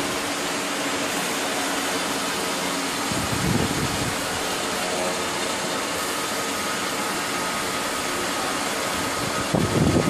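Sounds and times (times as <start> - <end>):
faint pump hum: 0.0 - 10.0
rushing hiss of water and air: 0.0 - 10.0.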